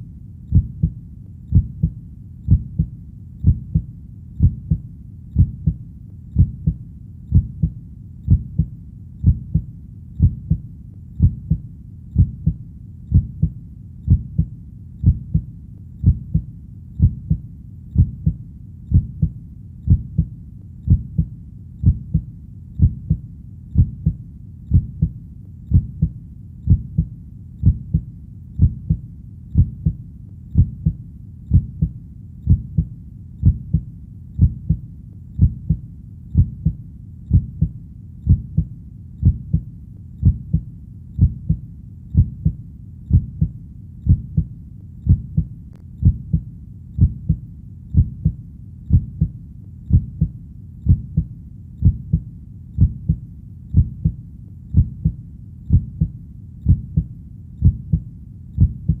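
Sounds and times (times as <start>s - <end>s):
heartbeat thumps: 0.0s - 59.0s.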